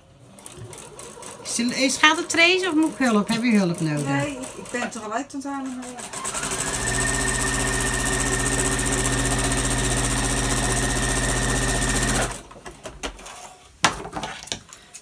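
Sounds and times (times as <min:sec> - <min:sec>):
sewing machine stitching: 0:00.2 - 0:12.5.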